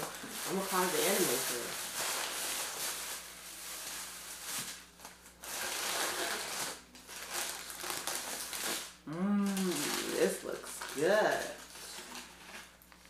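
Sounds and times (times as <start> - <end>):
paper wrapper and plastic bag crinkling: 0.0 - 13.0.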